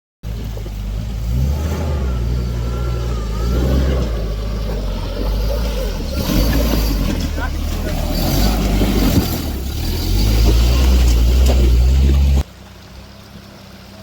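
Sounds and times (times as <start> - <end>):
truck engine rumbling under load: 0.2 - 14.0.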